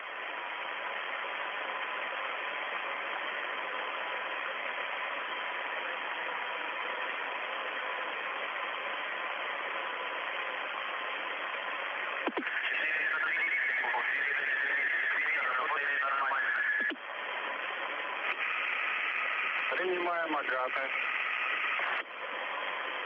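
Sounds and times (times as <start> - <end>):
radio channel hiss: 0.0 - 23.0.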